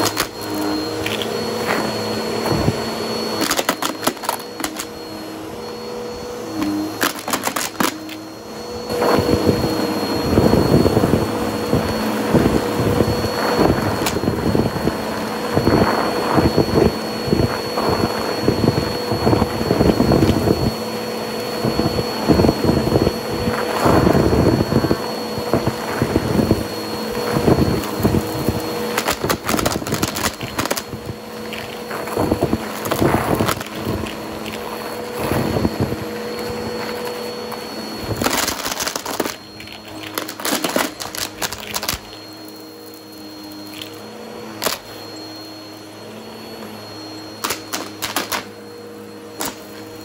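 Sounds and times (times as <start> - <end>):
debris rattling in vacuum nozzle: 0.0 - 45.2
vacuum cleaner motor hum: 0.0 - 50.0.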